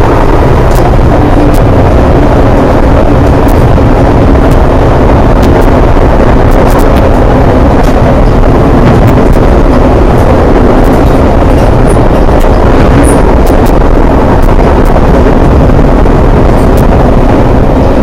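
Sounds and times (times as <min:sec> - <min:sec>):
train rumbling at speed: 0:00.0 - 0:18.0.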